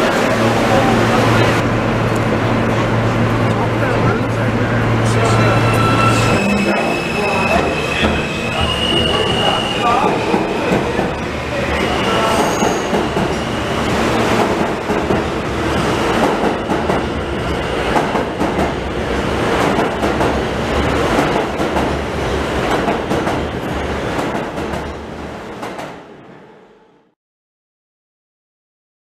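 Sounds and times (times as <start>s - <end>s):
subway train rumble: 0.0s - 27.2s.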